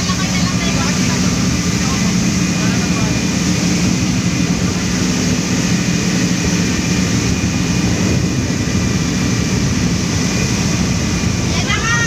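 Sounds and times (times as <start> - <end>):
speedboat engine droning: 0.0 - 12.0
water rushing past boat: 0.0 - 12.0
wind: 0.0 - 12.0.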